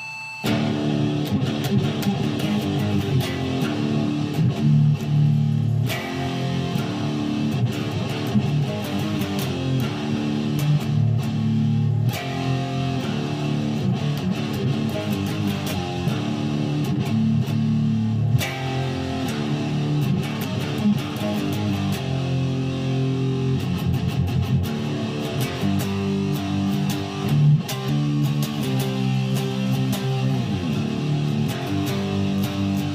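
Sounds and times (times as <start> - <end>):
strummed guitar chords: 0.4 - 32.9.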